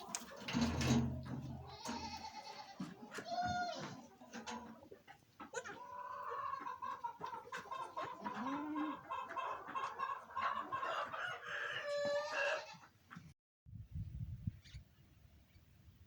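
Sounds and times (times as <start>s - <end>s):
chickens clucking and calling: 0.0s - 13.3s.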